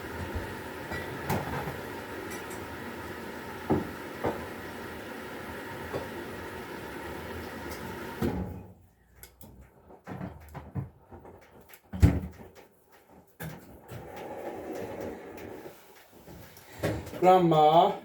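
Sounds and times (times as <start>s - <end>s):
steady household noise: 0.0s - 18.0s.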